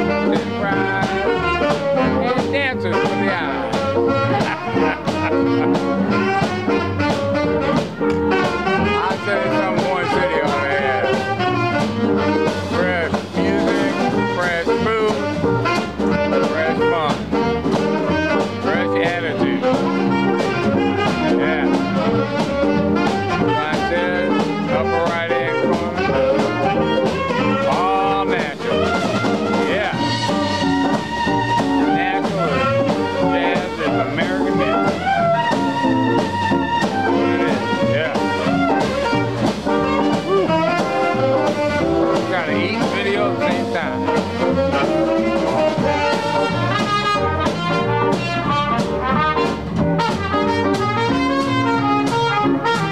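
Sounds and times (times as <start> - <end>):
drum kit beat: 0.0 - 52.9
electric guitar: 0.0 - 52.9
saxophone melody: 0.0 - 52.9.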